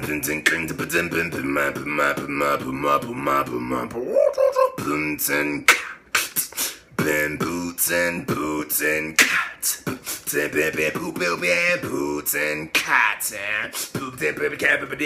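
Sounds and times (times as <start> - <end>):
man beatboxing: 0.0 - 15.0.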